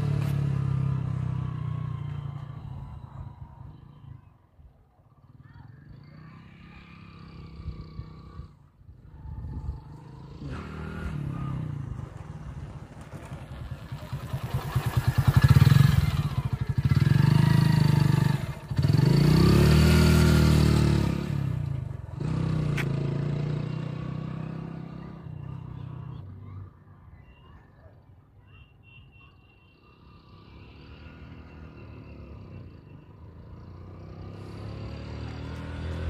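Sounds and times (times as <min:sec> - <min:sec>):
motorcycle passing by: 0:00.0 - 0:04.2, 0:05.1 - 0:26.8, 0:29.8 - 0:36.0.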